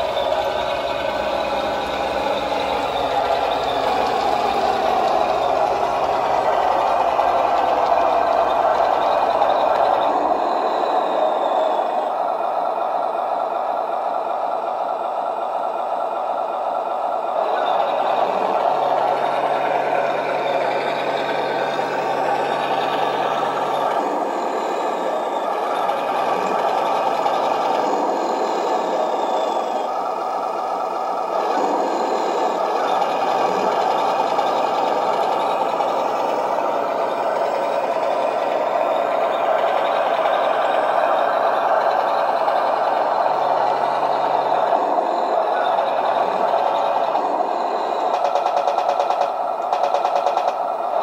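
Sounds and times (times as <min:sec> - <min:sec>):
electric motors whining: 0:00.0 - 0:13.5, 0:17.2 - 0:48.5.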